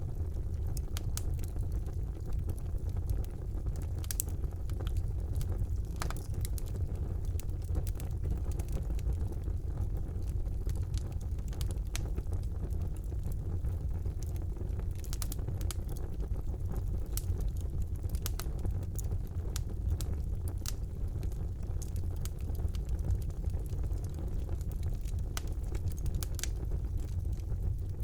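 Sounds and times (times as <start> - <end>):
low rumble of flames: 0.0 - 28.0
wood fire crackles and pops: 0.0 - 28.0.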